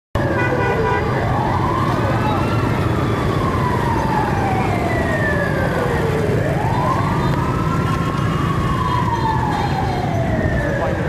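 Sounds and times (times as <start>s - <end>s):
motorbike and traffic rumble: 0.2s - 11.0s
siren wailing: 0.2s - 11.0s.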